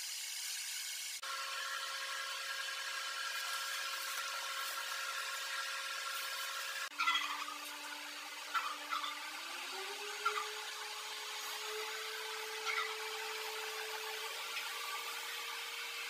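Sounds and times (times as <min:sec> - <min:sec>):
small electric motor whining: 0:01.2 - 0:16.0.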